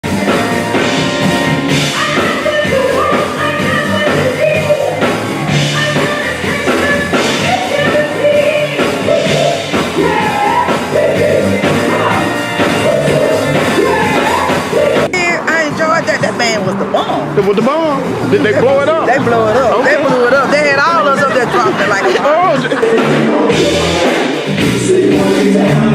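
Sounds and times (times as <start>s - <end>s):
lead singer: 0.0s - 15.2s, 20.0s - 25.9s
live band playing: 0.0s - 25.9s
low bass notes: 0.0s - 25.9s
steady drum beat: 0.0s - 25.9s.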